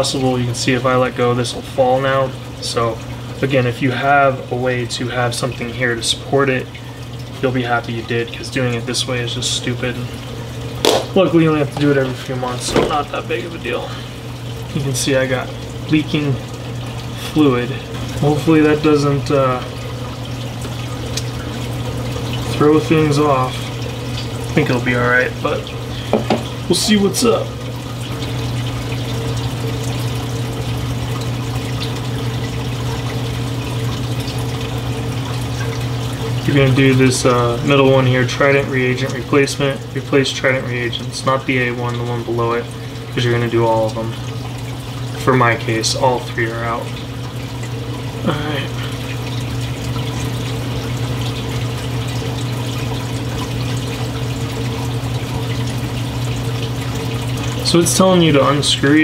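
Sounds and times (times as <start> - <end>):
circulating water rushing: 0.0 - 59.0
low pump hum: 0.0 - 59.0.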